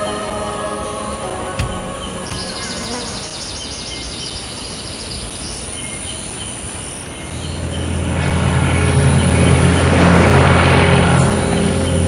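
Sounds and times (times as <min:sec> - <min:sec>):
insects chirping: 0:00.0 - 0:10.0
aircraft engine drone: 0:00.0 - 0:12.0.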